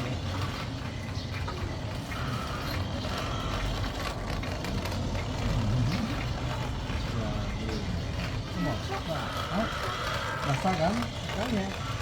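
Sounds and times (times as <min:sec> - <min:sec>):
gears clicking: 0:00.0 - 0:12.0
toy electric motor whirring: 0:00.0 - 0:12.0.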